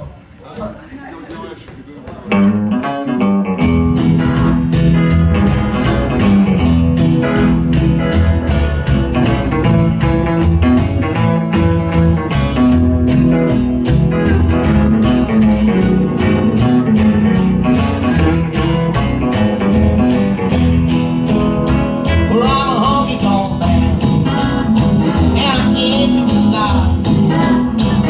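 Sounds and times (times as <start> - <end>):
bent sliding guitar notes: 2.3 - 28.0
country band playing: 2.3 - 28.0.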